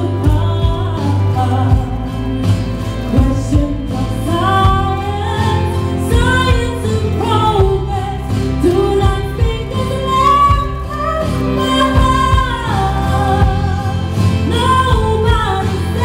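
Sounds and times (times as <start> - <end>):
bass-heavy instrumental music: 0.0 - 16.0
woman singing pop song: 0.0 - 16.0.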